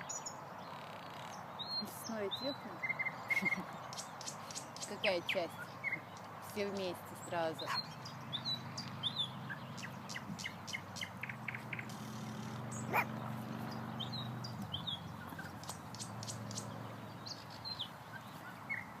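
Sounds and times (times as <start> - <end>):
nightingales singing: 0.0 - 19.0.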